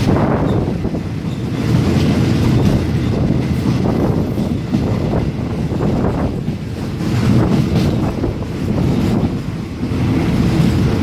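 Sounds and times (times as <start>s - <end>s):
train rumbling: 0.0s - 11.0s
wind buffeting microphone: 0.0s - 11.0s.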